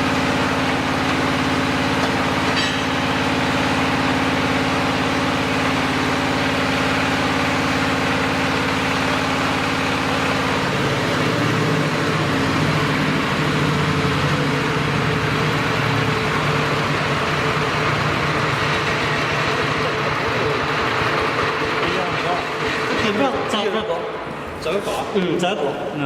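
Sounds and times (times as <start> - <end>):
diesel engine running: 0.0 - 24.6.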